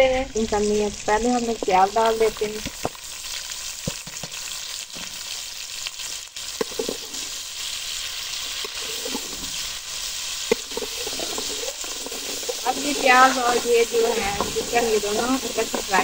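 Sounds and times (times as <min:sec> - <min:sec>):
chicken and onions sizzling: 0:00.0 - 0:16.0.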